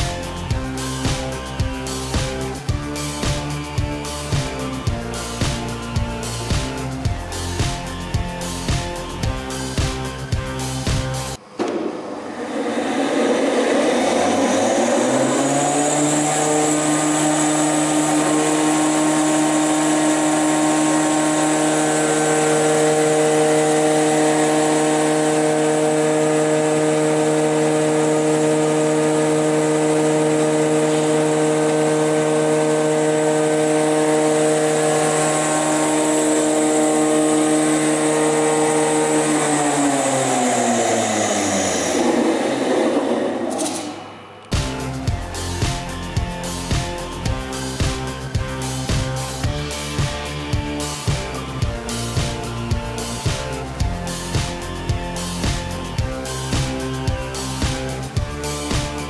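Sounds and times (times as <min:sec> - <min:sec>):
jointer planer motor running: 0:00.0 - 0:59.0.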